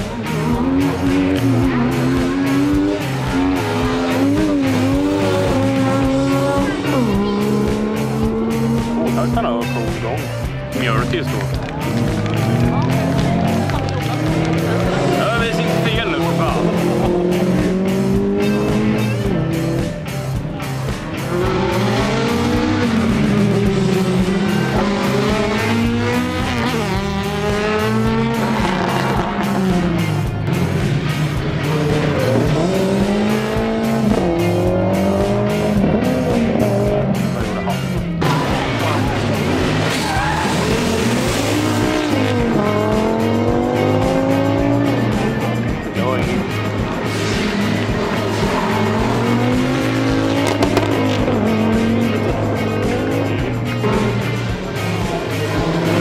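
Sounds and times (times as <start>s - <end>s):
background music with steady beat: 0.0s - 56.0s
rally cars racing past: 0.0s - 56.0s.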